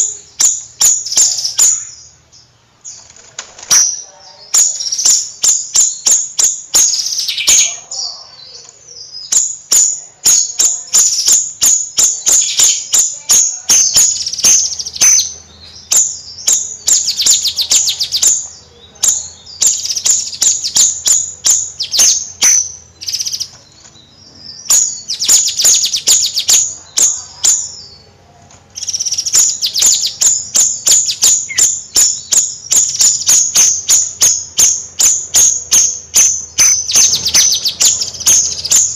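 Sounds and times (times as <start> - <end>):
songbird chattering song: 0.0 - 38.9.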